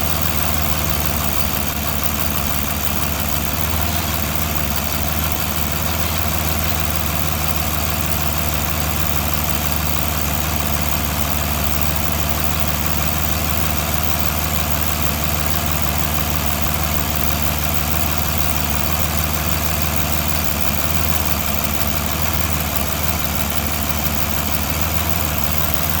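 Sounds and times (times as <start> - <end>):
car engine idling: 0.0 - 26.0
loud irregular ticking: 0.0 - 26.0.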